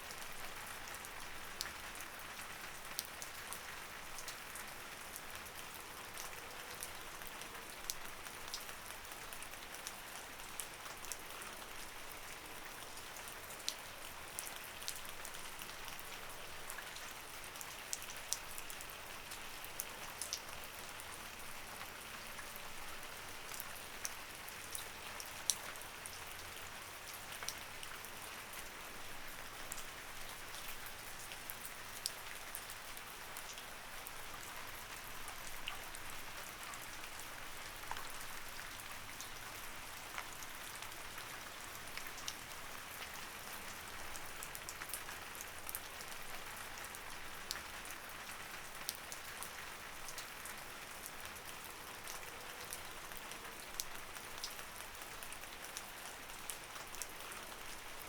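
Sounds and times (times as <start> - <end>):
light rain hiss: 0.0 - 58.0
raindrops ticking on a surface: 0.1 - 58.0.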